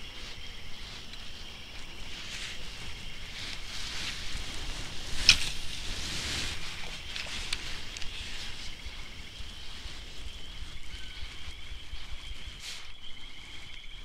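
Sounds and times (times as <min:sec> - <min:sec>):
fishing line hissing off spool: 0:00.0 - 0:13.8.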